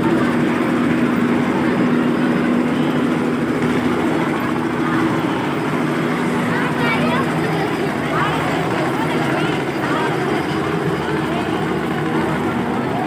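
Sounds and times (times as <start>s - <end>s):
helicopter engine drone: 0.0s - 13.0s.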